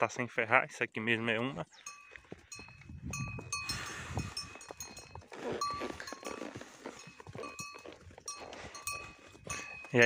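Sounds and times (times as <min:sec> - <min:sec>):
hooves on dirt track: 0:01.0 - 0:10.0
metal livestock bell clanking: 0:01.7 - 0:10.0.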